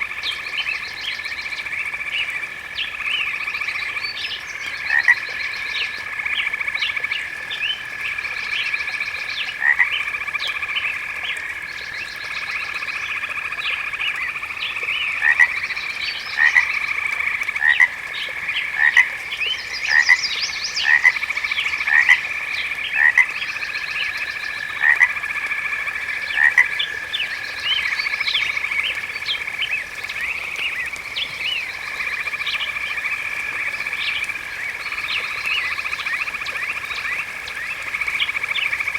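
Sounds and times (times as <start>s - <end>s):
frogs trilling drone: 0.0s - 38.9s
frogs rising calls: 0.2s - 38.9s.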